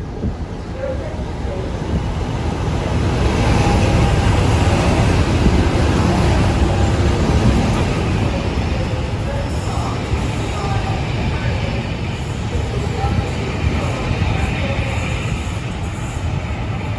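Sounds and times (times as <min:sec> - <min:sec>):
train rumbling: 0:00.0 - 0:16.9.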